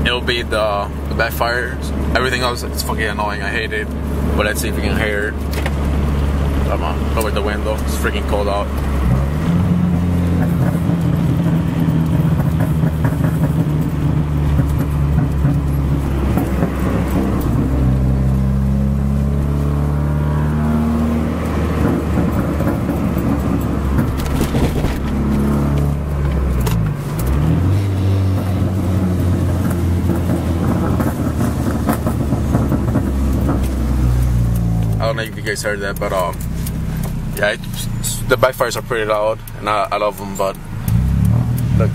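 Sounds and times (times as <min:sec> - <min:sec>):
exhaust backfires: 0:00.0 - 0:41.9
loud car exhaust revving: 0:00.0 - 0:41.9.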